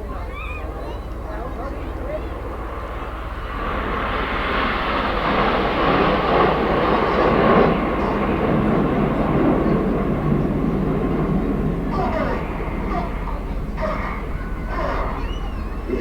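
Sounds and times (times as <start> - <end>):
jets roaring past: 0.0 - 16.0.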